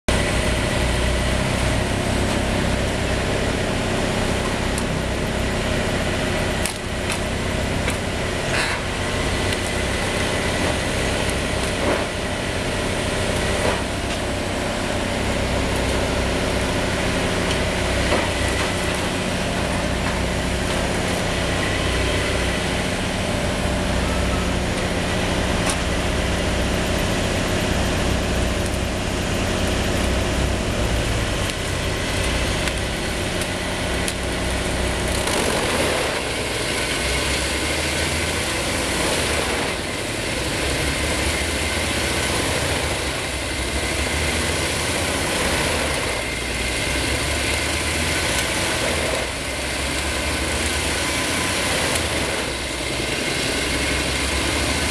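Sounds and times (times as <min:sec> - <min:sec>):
wood chipper engine running: 0:00.1 - 0:54.9
wood cracking in chipper: 0:05.9 - 0:23.9, 0:28.2 - 0:54.9.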